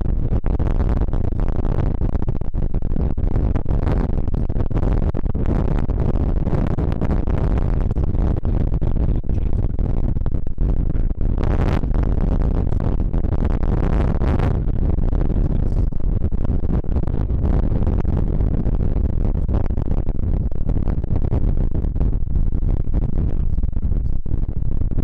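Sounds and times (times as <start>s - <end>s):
strong wind on microphone: 0.0s - 25.0s.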